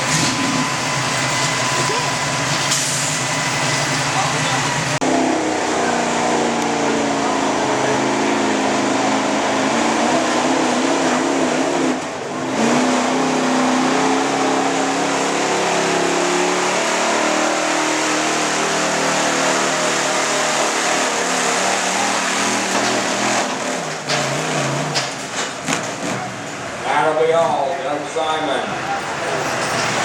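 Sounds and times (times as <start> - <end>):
truck engine revving under load: 0.0 - 26.8.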